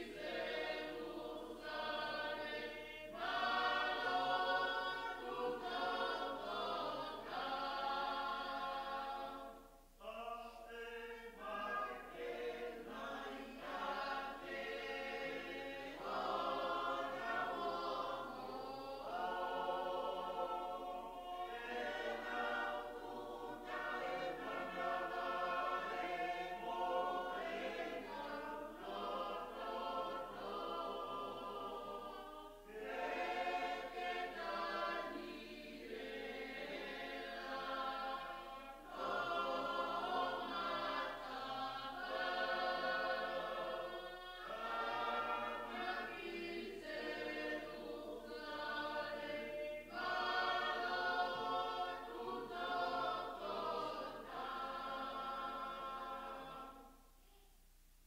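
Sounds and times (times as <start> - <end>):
choir singing a hymn: 0.0 - 57.3.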